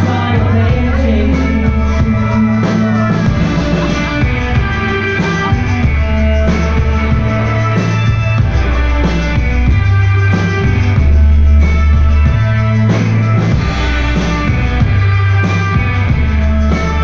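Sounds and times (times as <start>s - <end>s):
deep bass notes: 0.0s - 17.0s
live rock band playing: 0.0s - 17.0s.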